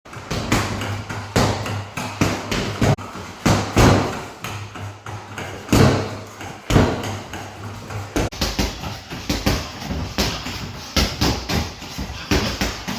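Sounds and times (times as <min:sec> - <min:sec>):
punches landing thuds: 0:00.1 - 0:12.9.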